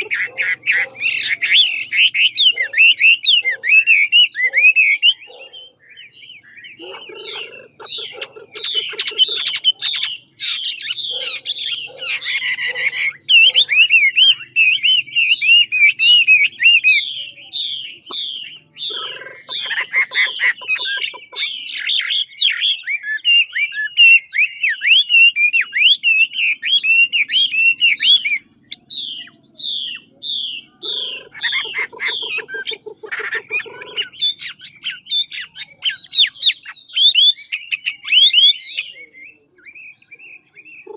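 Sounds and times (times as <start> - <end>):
bird singing whistled notes: 0.0 - 20.8, 21.4 - 32.8, 33.8 - 40.9.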